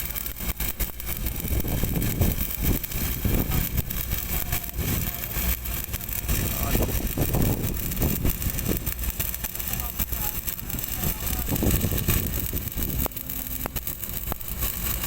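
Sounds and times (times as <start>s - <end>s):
low rumble: 0.0s - 15.0s
welding arc crackling and hissing: 0.0s - 15.0s.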